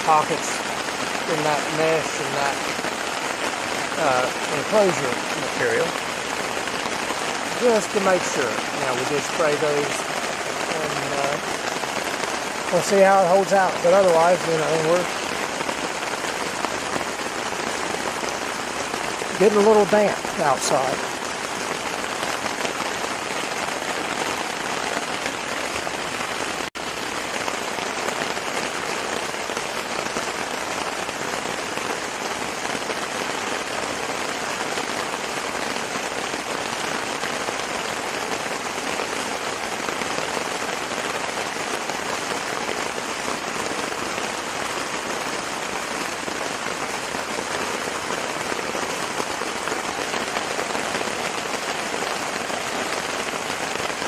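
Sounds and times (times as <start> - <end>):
heavy rain on a tent: 0.0 - 54.0.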